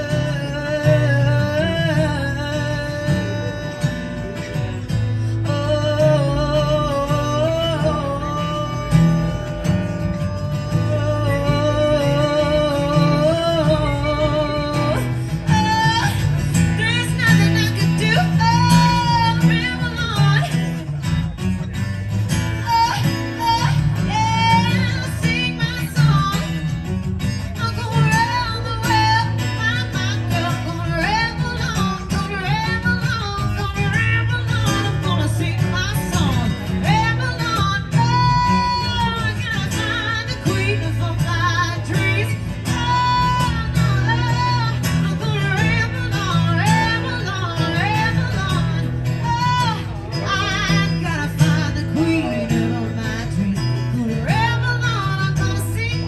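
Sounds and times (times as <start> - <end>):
woman singing: 0.0 - 21.3, 22.3 - 56.0
guitar accompaniment: 0.0 - 56.0.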